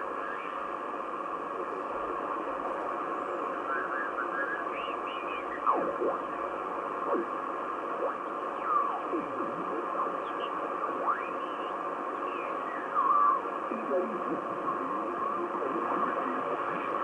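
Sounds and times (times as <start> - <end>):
shortwave radio hiss and static: 0.0 - 17.0.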